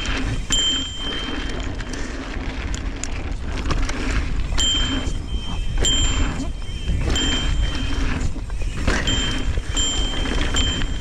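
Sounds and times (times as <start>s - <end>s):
thin high whine: 0.0s - 2.3s, 3.9s - 11.0s
bike clicks and rattles: 0.0s - 11.0s
wind buffeting microphone: 0.0s - 11.0s.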